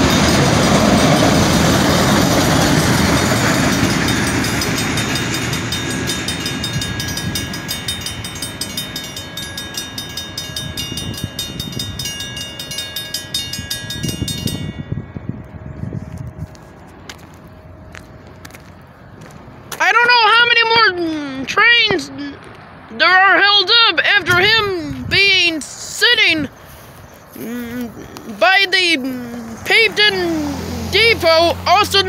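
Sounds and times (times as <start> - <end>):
crossing warning bell ringing: 0.0 - 22.4, 23.0 - 32.0
freight train rumbling past: 0.0 - 23.0, 23.7 - 32.0.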